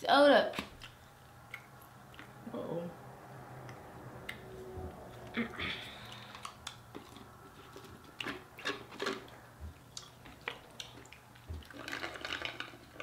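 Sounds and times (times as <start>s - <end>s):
chewing food: 0.8s - 2.4s, 3.6s - 13.0s.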